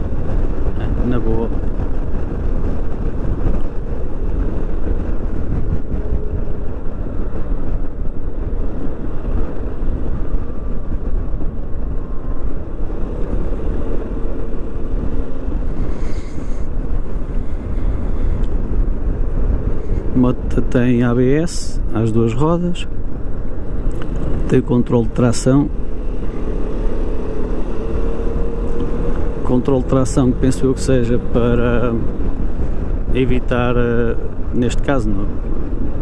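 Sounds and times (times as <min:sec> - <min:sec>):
road noise: 0:00.0 - 0:36.0
wind rush: 0:00.0 - 0:36.0.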